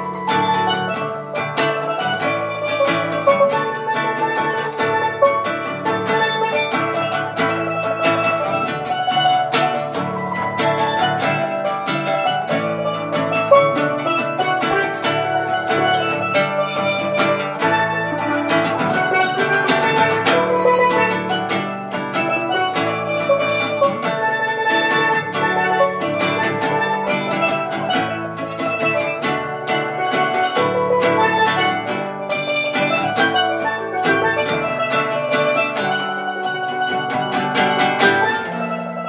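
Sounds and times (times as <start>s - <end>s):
acoustic guitar: 0.0s - 39.0s
steelpan notes: 0.0s - 39.0s.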